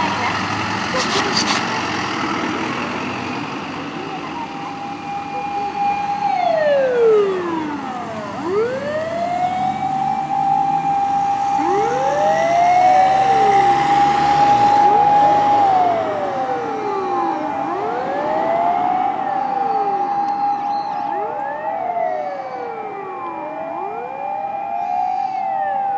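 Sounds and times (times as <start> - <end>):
motor sirens wailing: 0.0 - 25.9.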